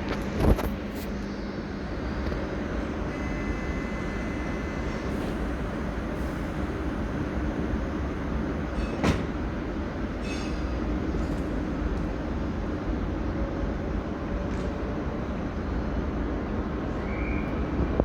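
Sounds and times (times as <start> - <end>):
train running on rails: 0.0 - 18.0.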